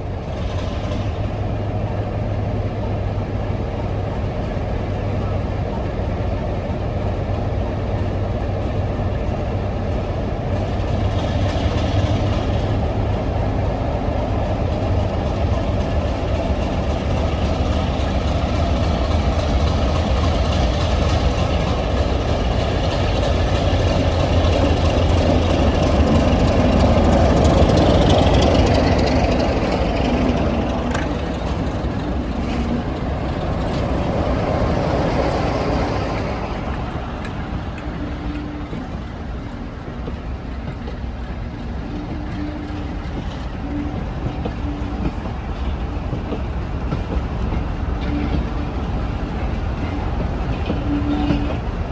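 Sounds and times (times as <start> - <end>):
diesel locomotive engine humming: 0.0 - 51.9.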